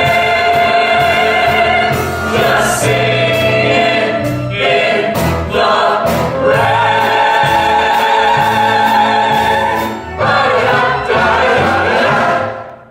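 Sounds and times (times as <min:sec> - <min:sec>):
choir singing with accompaniment: 0:00.0 - 0:12.9.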